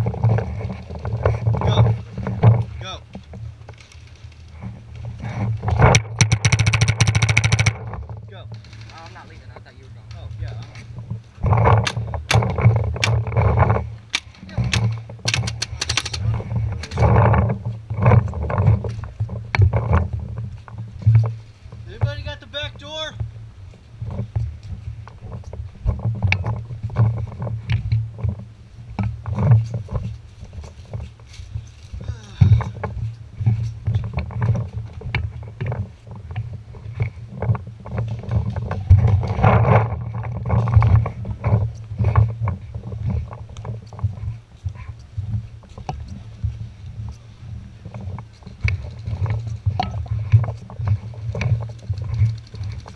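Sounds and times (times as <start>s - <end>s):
low rumbling: 0.0s - 52.9s
rustling and scraping: 0.0s - 52.9s.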